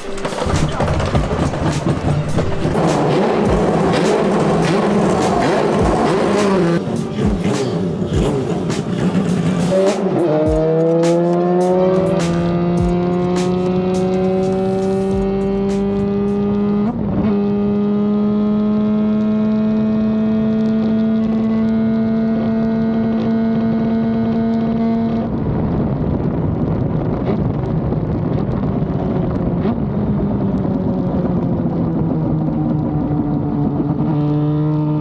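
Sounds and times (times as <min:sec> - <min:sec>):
engine popping on deceleration: 0:00.0 - 0:35.0
rotary motorcycle engine at full throttle: 0:00.1 - 0:35.0.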